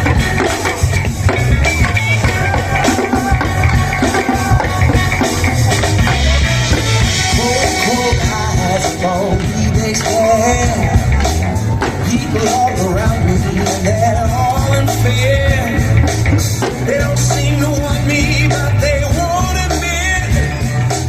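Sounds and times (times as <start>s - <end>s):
drum kit beat: 0.0s - 21.0s
rock-style dance music: 0.0s - 21.0s.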